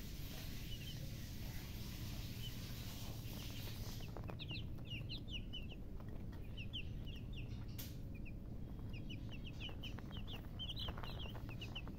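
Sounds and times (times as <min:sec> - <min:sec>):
baby chicks peeping: 0:00.0 - 0:11.9
low background rumble: 0:00.0 - 0:11.9.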